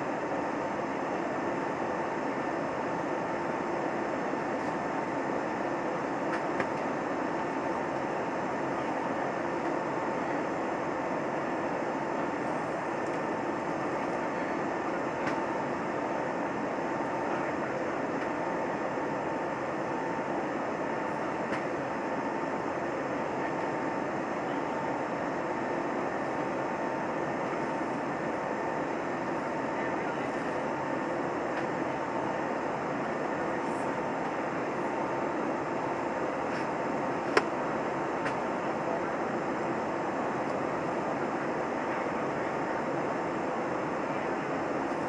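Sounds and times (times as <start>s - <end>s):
aircraft cabin engine and airflow rush: 0.0s - 45.0s.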